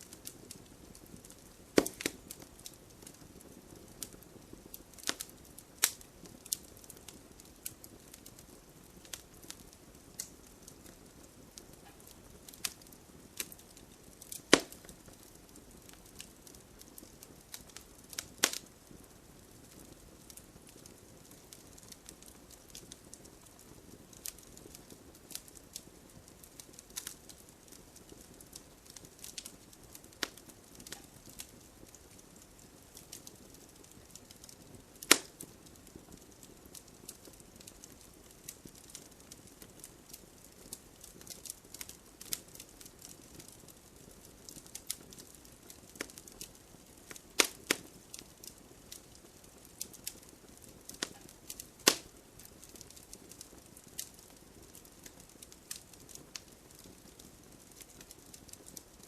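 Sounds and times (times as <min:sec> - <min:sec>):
campfire crackling and popping: 0:00.0 - 0:59.0
soft fire hiss: 0:00.0 - 0:59.0.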